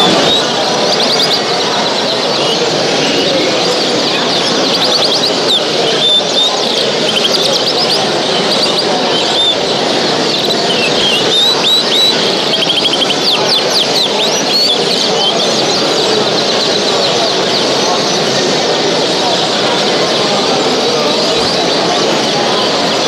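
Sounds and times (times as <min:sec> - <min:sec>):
cage birds chirping: 0:00.0 - 0:23.0
steady murmur: 0:00.0 - 0:23.0.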